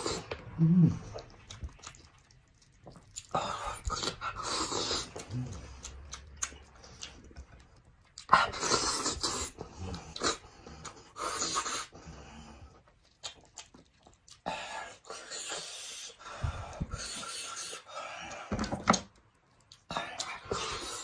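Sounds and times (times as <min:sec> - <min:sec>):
person slurping and sucking meat: 0:00.0 - 0:07.4, 0:08.2 - 0:12.2, 0:12.8 - 0:18.4, 0:19.8 - 0:21.0.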